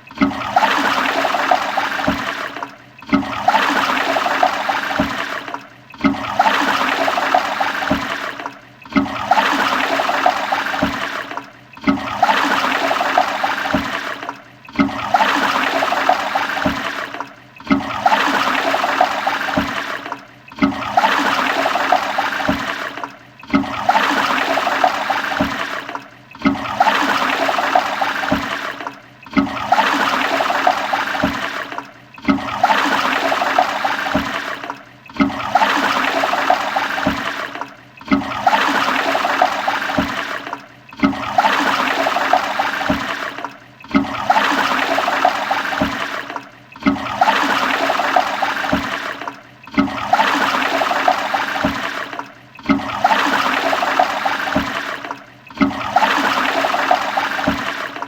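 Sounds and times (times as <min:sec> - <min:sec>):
toilet flushing: 0:00.0 - 0:58.0.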